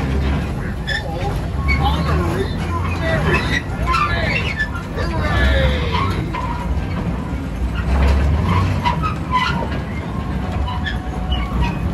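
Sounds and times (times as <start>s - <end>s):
ride car rumbling: 0.0s - 11.9s.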